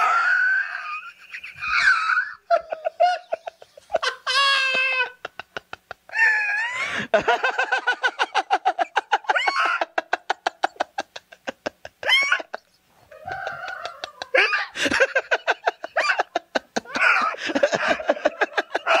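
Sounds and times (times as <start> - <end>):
man laughing hysterically: 0.0 - 19.0.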